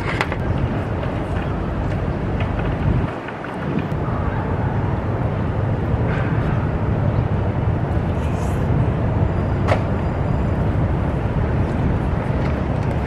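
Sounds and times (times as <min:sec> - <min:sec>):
traffic rumble: 0:00.0 - 0:13.0
wind buffeting microphone: 0:00.0 - 0:13.0.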